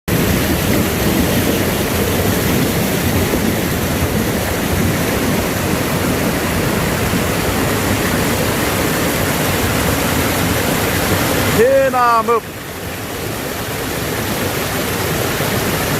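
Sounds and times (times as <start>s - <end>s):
waterfall roaring: 0.1s - 15.9s.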